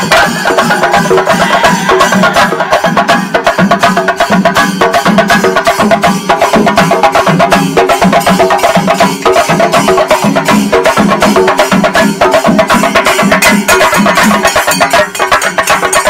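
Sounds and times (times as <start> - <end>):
fast steady percussion: 0.0 - 16.0.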